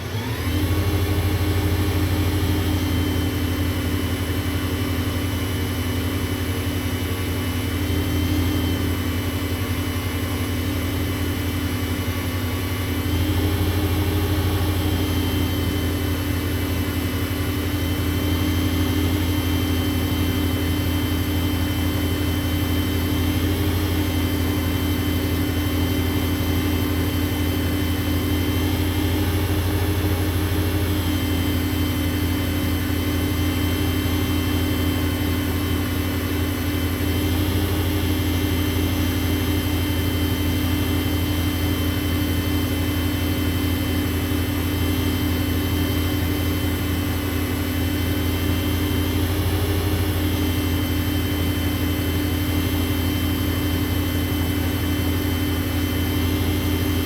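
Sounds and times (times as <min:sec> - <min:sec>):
lathe motor humming: 0:00.0 - 0:05.1, 0:11.3 - 0:57.0.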